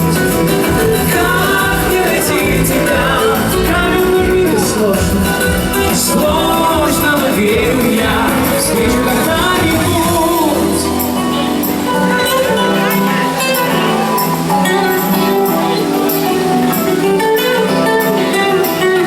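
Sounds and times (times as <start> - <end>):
instrumental show music: 0.0 - 19.0.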